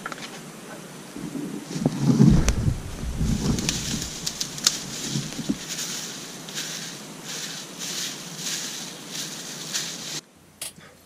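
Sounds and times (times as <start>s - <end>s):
ferns and undergrowth rustling: 0.0s - 10.5s.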